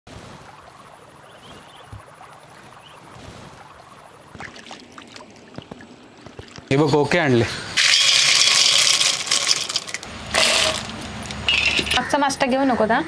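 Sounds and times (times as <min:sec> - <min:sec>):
water splashing and sloshing: 0:00.1 - 0:12.0
outdoor background hiss: 0:00.1 - 0:13.0.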